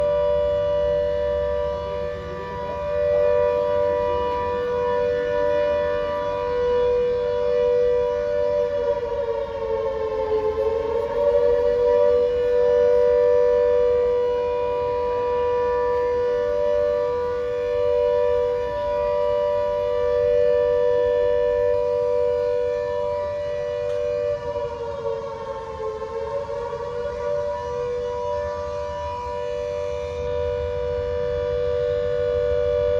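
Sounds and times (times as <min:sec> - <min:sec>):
air-raid siren wailing: 0:00.0 - 0:32.9.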